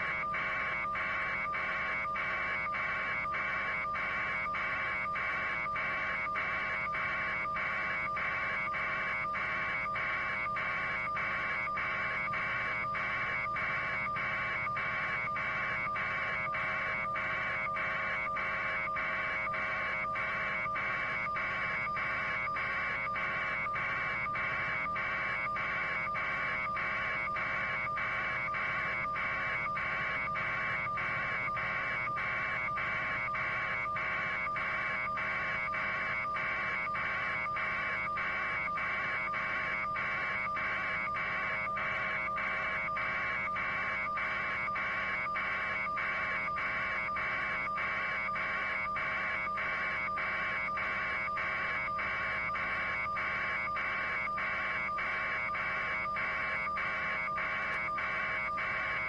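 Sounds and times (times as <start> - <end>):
constant hum tones: 0.0 - 59.0
steady electronic buzzing: 0.0 - 59.0.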